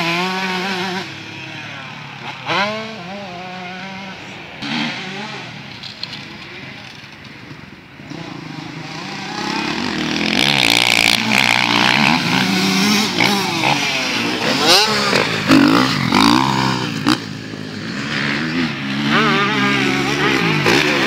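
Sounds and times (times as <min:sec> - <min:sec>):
dirt bike engine revving: 0:00.0 - 0:07.2, 0:08.0 - 0:21.0.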